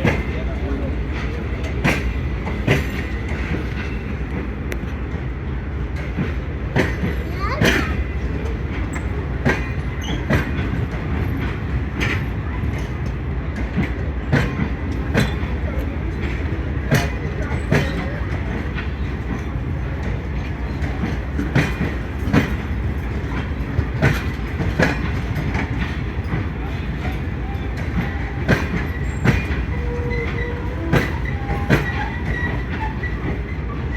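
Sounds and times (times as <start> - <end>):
train coaches rumbling past: 0.0 - 33.9.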